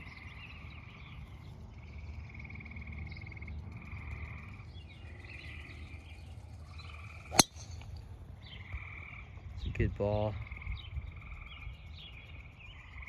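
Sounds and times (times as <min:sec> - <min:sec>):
frogs trilling: 0:00.0 - 0:07.5, 0:08.5 - 0:09.6, 0:10.3 - 0:13.0
low steady rumble: 0:00.0 - 0:13.0.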